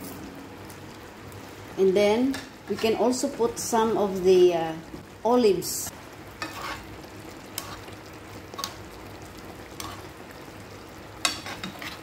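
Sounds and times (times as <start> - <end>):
fish sizzling in a pan: 2.3 - 12.0.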